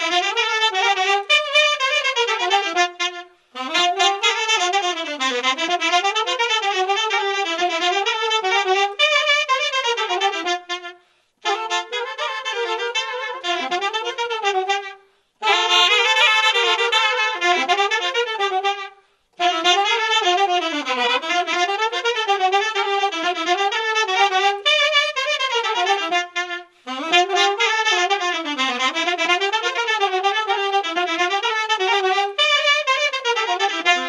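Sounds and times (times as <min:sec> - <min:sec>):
folk melody on reed and saxophone: 0:00.0 - 0:34.0.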